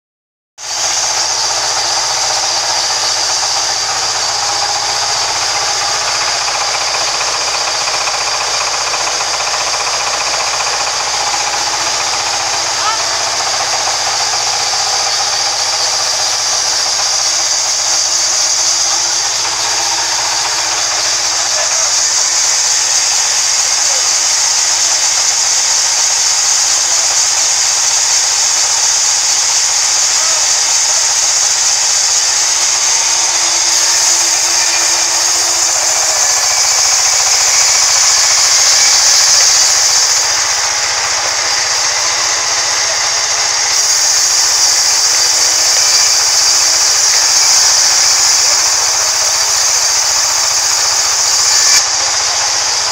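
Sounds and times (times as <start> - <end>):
band saw cutting wood: 0.6 - 52.9.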